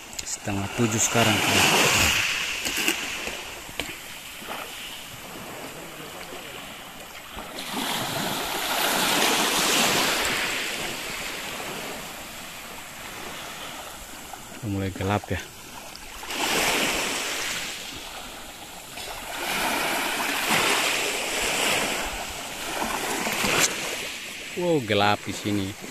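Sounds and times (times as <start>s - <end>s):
sea waves washing onto beach: 0.0s - 25.9s.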